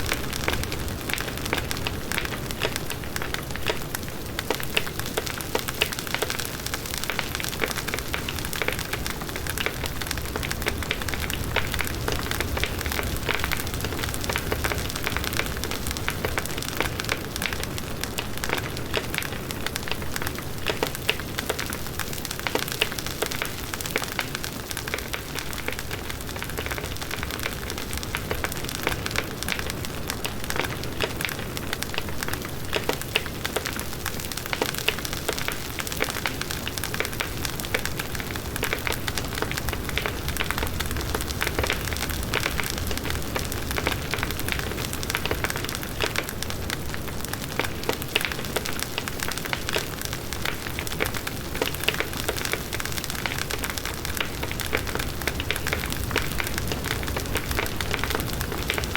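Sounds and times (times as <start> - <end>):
burning wood crackling and popping: 0.0 - 58.9.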